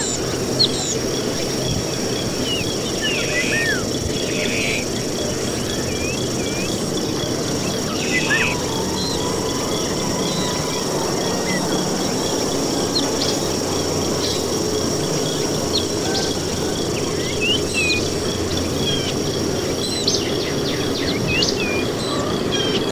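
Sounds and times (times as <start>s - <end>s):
bird chirps and whistling calls: 0.0s - 22.9s
high-pitched insect drone: 0.0s - 22.9s
low noisy background: 0.0s - 22.9s.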